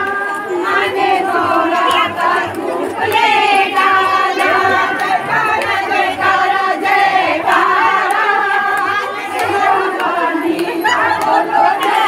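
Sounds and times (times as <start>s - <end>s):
crowd noise: 0.0s - 12.0s
women singing together: 0.0s - 12.0s.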